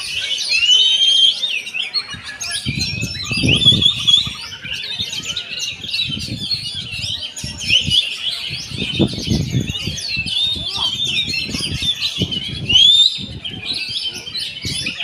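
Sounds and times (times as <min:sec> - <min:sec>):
bird singing chirps and trills: 0:00.0 - 0:15.0.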